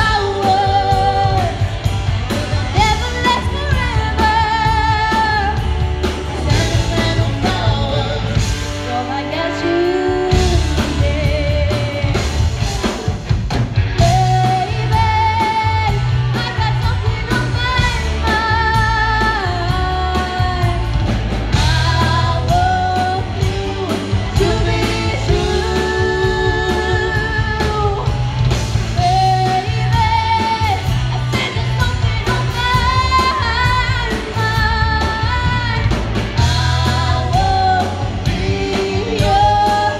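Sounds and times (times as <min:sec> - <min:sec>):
woman singing lead: 0:00.0 - 0:13.2, 0:13.8 - 0:39.9
drum kit: 0:00.0 - 0:39.9
electric guitars: 0:00.0 - 0:39.9.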